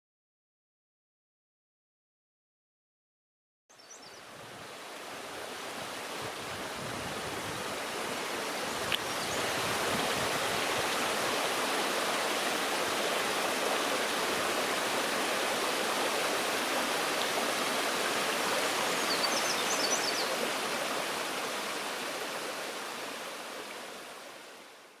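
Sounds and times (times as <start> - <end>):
stream water rushing: 3.8 - 25.0.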